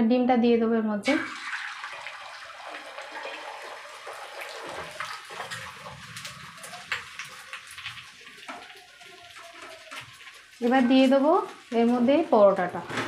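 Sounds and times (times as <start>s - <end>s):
egg sizzling in hot oil: 1.1s - 12.7s.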